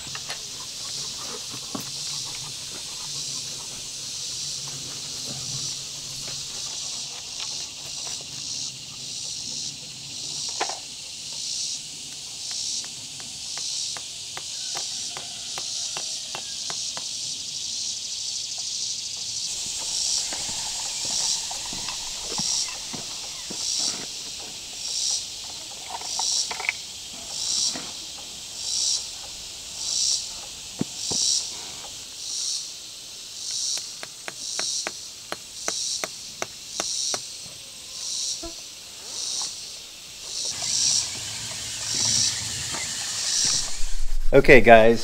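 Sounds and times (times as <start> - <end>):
insect chorus buzzing: 0.0 - 45.0.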